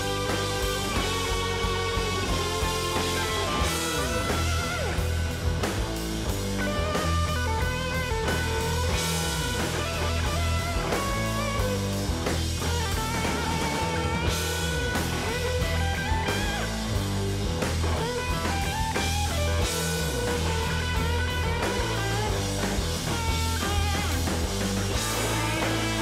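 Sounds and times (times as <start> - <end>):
rock music with guitar melody: 0.0 - 26.0.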